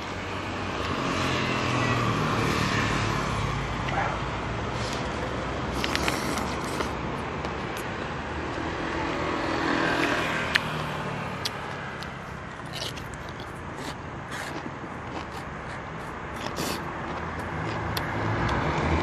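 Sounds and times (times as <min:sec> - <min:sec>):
street traffic: 0:00.0 - 0:19.0
vehicle passing: 0:00.0 - 0:19.0.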